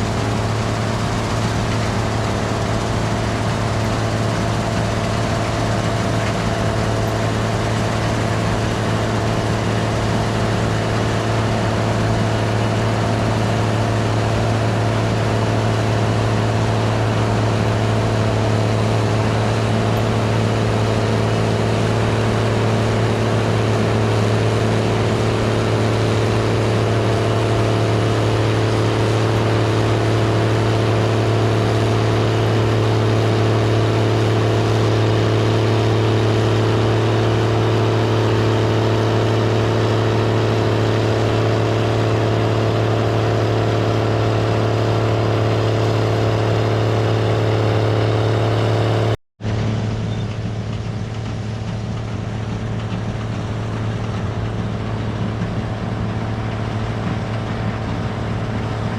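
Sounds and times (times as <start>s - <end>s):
combine harvester engine drone: 0.0s - 58.9s.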